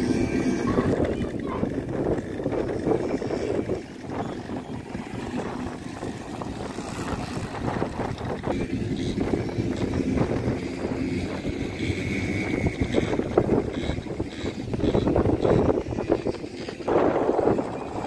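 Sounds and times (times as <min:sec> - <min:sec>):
quad bike engines humming: 0:00.0 - 0:18.0
wind on microphone: 0:00.0 - 0:18.0.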